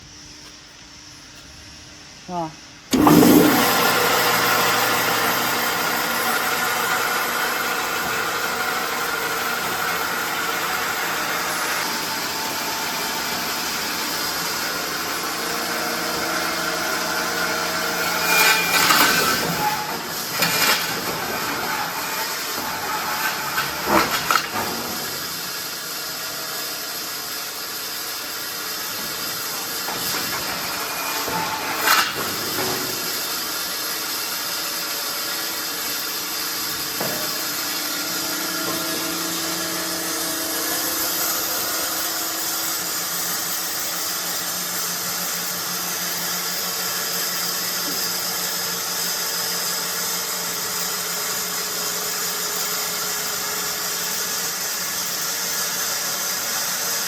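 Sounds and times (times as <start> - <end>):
machine running with steady hiss: 0.0 - 57.0.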